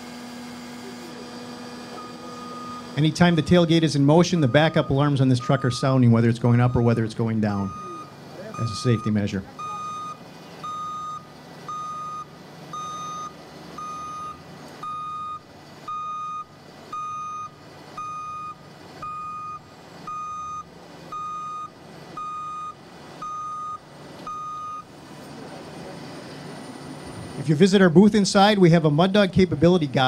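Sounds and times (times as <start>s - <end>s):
low truck hum: 0.0s - 30.0s
truck backup alarm beeping: 0.1s - 30.0s.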